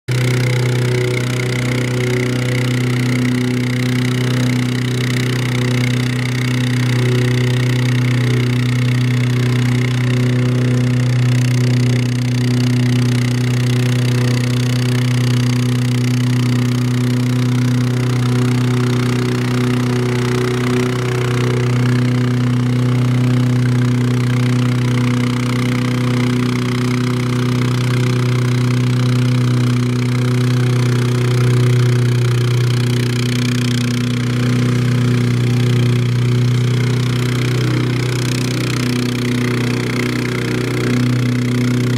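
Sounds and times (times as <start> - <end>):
plate compactor running: 0.1 - 41.9.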